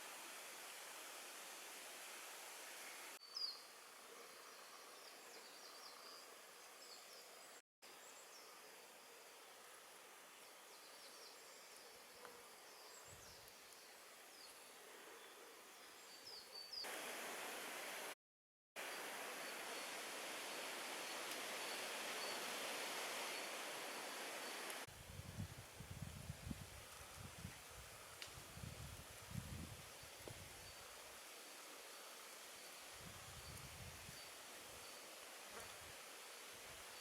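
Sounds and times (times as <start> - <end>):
outdoor background hiss: 0.0 - 18.2, 18.8 - 37.0.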